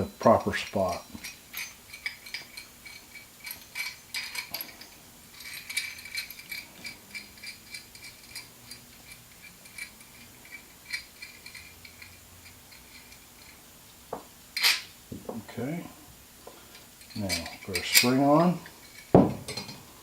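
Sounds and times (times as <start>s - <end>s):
metal parts clicking and clinking: 0.0s - 13.6s, 14.6s - 14.9s, 16.7s - 19.8s.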